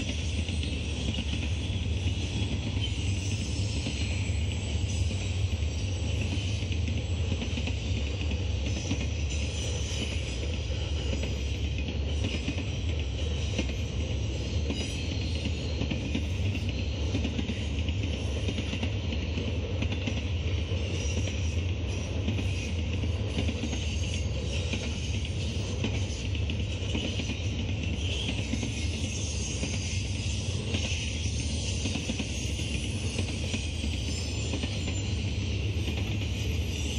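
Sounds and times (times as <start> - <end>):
freight train wheels rumbling: 0.0 - 36.9.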